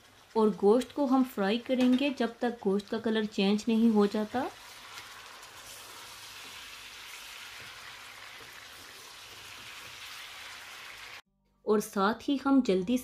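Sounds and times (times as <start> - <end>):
meat sizzling in hot oil: 0.0 - 11.2.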